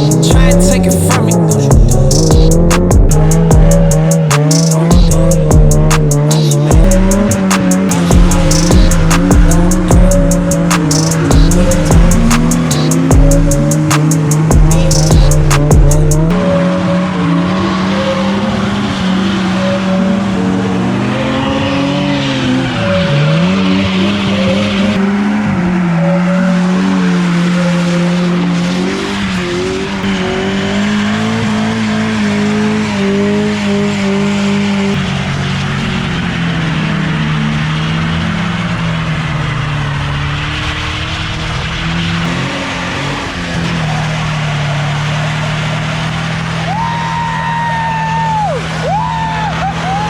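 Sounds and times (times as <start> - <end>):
tyres squealing: 0.0 - 16.6, 17.2 - 50.0
car engine at high revs: 0.0 - 50.0.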